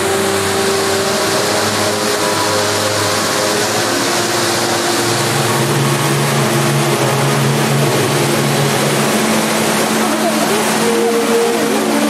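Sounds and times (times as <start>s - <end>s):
low steady hums: 0.0s - 12.0s
waterfall rushing into pool: 0.0s - 12.0s.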